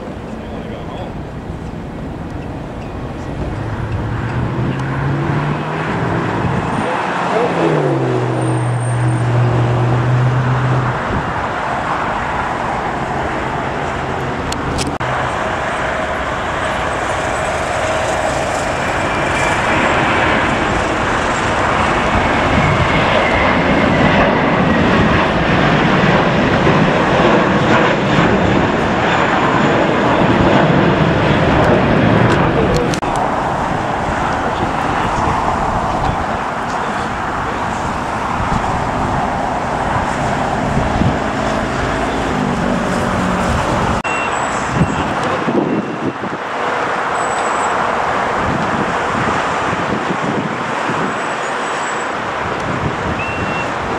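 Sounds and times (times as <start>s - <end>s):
airport noise: 0.0s - 53.9s
jet engines roaring: 0.0s - 53.9s.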